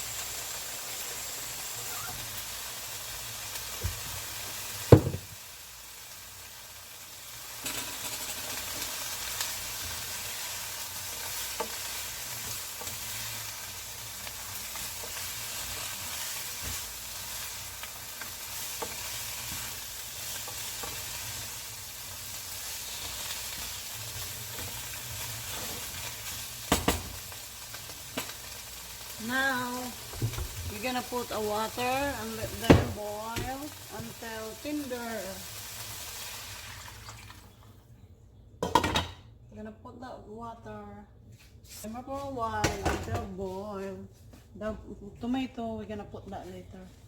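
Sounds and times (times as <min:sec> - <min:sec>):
food sizzling in a pan: 0:00.0 - 0:37.7.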